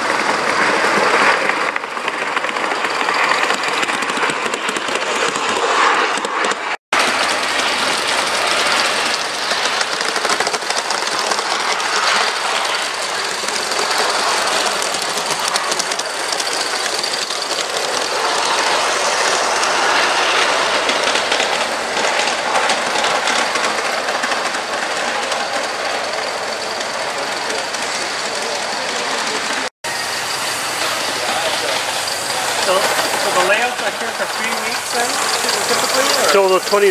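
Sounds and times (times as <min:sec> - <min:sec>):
wheels clicking over rail joints: 0:00.0 - 0:29.7, 0:30.6 - 0:36.9
model train running: 0:00.0 - 0:36.9.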